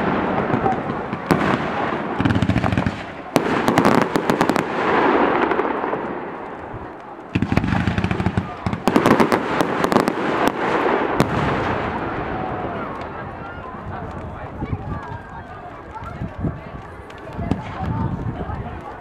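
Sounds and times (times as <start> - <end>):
fireworks bangs: 0.0 - 15.2, 17.0 - 18.3
fireworks crackling: 0.0 - 19.0.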